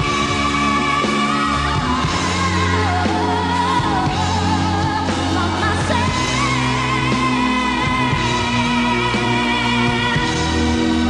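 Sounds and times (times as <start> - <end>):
band playing sustained chords: 0.0 - 11.0
woman singing: 0.0 - 11.0.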